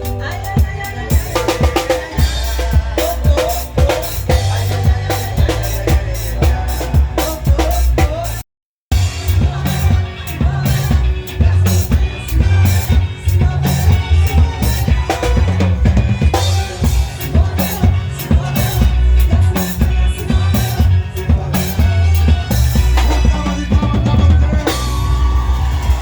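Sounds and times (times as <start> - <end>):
live band playing: 0.0 - 26.0
pounding bass drum: 0.0 - 26.0.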